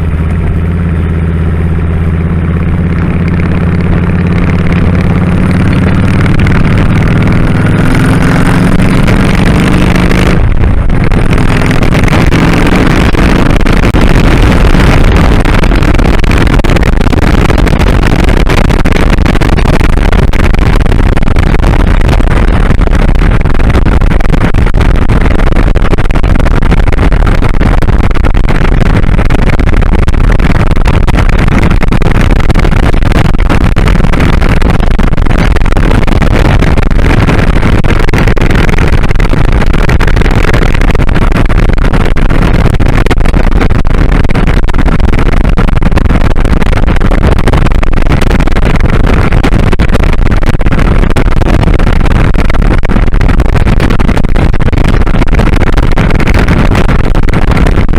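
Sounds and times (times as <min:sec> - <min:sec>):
motorcycle engine: 0:00.0 - 0:57.9
road noise: 0:00.0 - 0:57.9
wind rushing on microphone: 0:00.0 - 0:57.9.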